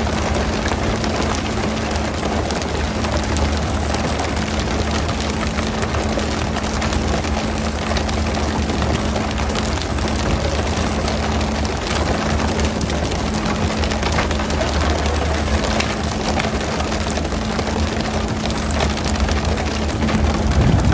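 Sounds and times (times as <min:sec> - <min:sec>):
boat engine humming: 0:00.0 - 0:20.9
rushing water and wind: 0:00.0 - 0:20.9.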